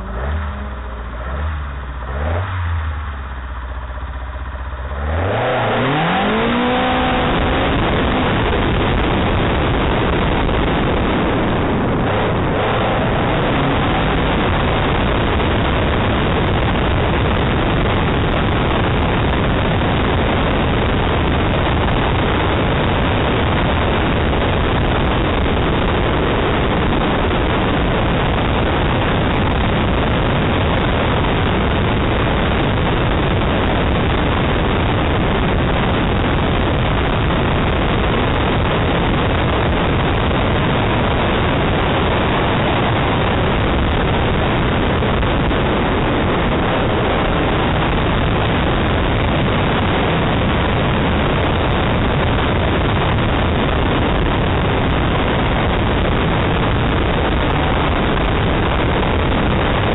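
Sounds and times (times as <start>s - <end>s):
car engine: 0.0s - 59.9s
wind rushing: 4.9s - 59.9s.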